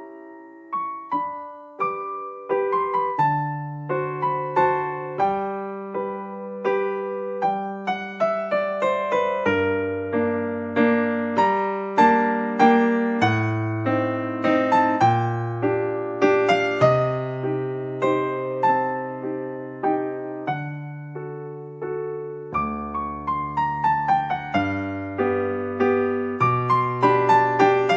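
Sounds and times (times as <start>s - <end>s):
gentle piano piece: 0.0s - 27.9s.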